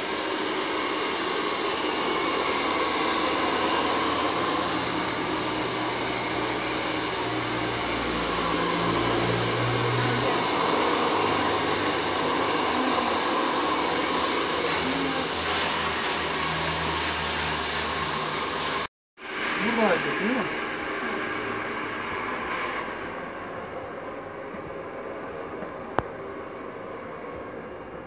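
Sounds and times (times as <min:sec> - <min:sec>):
hair dryer blowing: 0:00.0 - 0:27.7.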